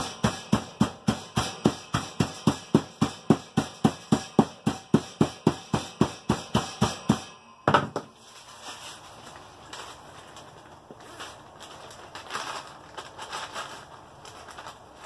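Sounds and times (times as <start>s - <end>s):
mallet pounding beans in plastic bag: 0.0s - 15.0s.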